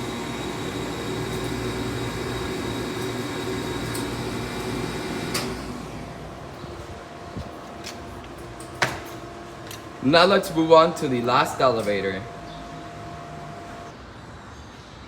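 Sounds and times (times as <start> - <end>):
elevator pump motor humming: 0.0 - 13.9.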